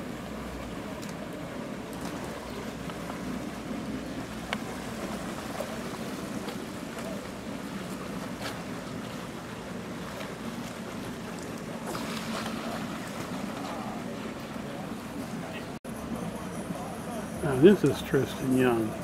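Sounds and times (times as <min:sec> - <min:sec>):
aerator fountain rushing water: 0:00.0 - 0:19.0
fish splashing: 0:00.1 - 0:15.6.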